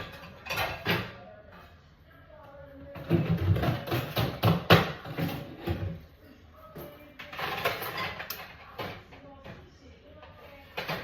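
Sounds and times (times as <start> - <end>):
dishes knocking and clattering: 0.0 - 1.4, 2.8 - 11.0.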